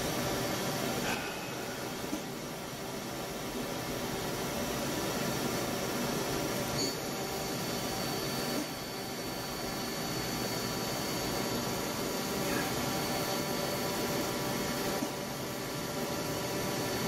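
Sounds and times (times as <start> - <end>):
lathe mechanical hum: 0.0 - 17.0.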